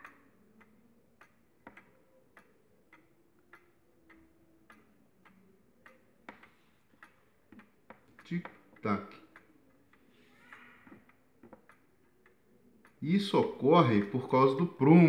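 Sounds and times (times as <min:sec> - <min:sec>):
wall clock ticking: 0:00.0 - 0:15.0.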